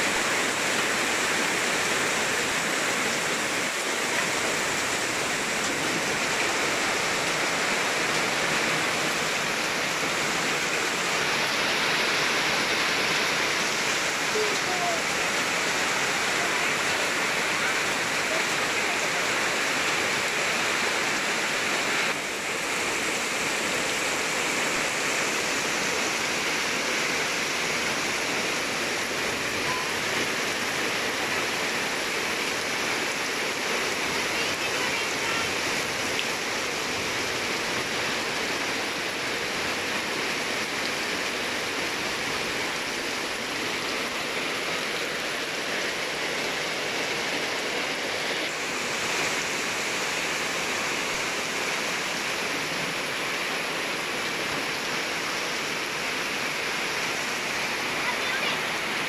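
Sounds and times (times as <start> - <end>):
heavy rain in strong wind: 0.0 - 59.0.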